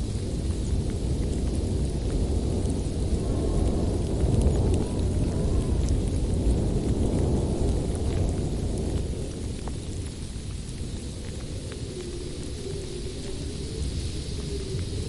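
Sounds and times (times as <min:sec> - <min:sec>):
light rain patter: 0:00.0 - 0:15.0
low rumbling storm: 0:00.0 - 0:15.0.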